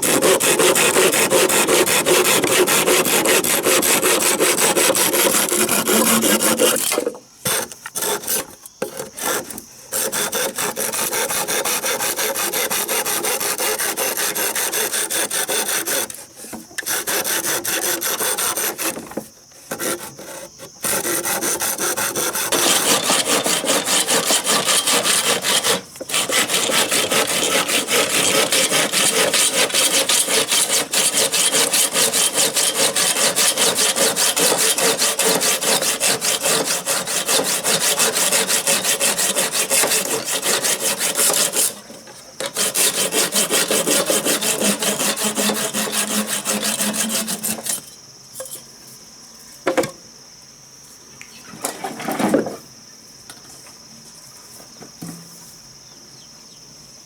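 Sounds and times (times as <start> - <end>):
hand saw cutting wood: 0.0 - 47.9.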